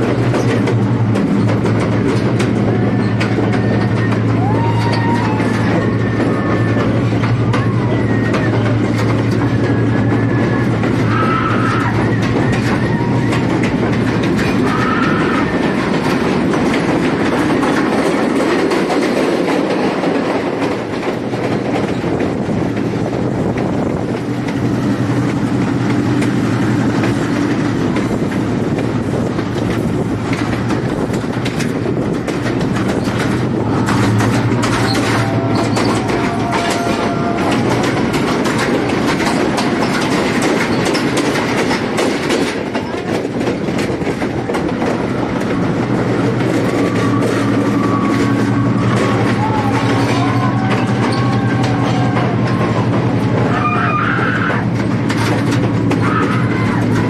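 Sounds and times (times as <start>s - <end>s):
train rumble: 0.0s - 57.0s
wheels clacking on rails: 0.0s - 57.0s.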